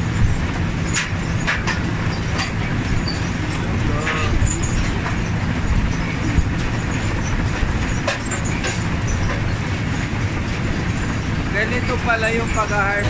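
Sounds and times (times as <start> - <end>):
harvester machine drone: 0.0 - 13.0.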